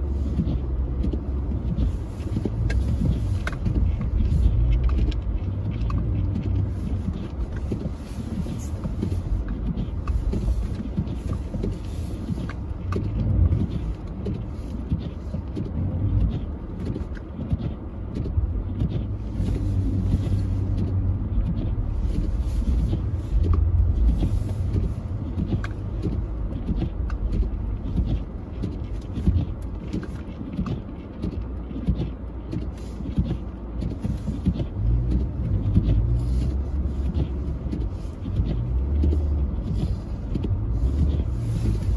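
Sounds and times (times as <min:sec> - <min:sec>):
car driving through snow: 0:00.0 - 0:41.9.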